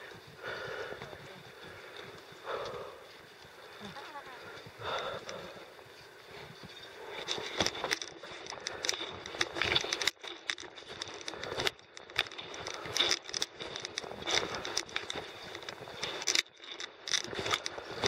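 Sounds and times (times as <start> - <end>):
footsteps crunching on rocky trail: 0.0 - 18.0.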